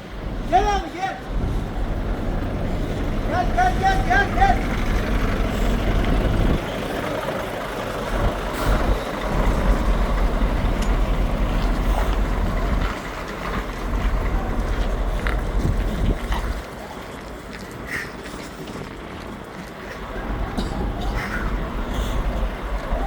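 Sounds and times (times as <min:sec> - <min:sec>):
truck diesel engines rumbling: 0:00.0 - 0:23.0.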